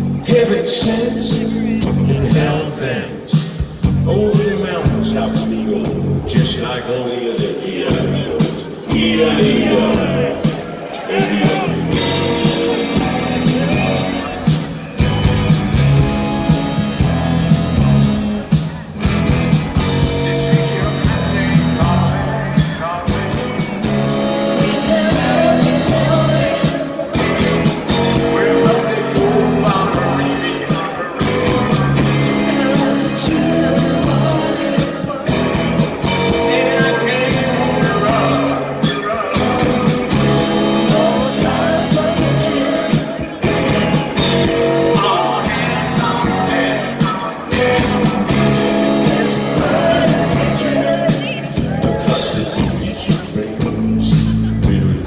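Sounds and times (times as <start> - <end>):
rock band playing live: 0.0 - 55.0
steady drum beat: 0.0 - 55.0.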